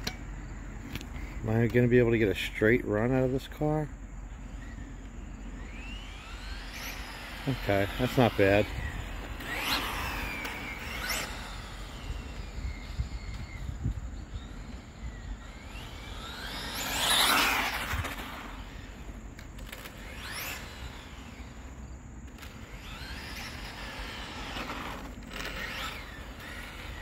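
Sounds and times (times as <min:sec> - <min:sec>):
electric rc car motor whining: 0:02.3 - 0:27.0.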